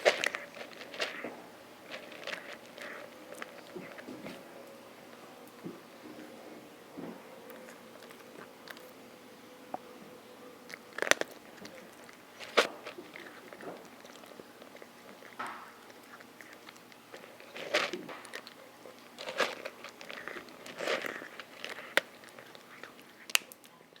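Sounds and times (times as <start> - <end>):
cat crunching dry kibble: 0.0 - 9.0, 9.6 - 24.0.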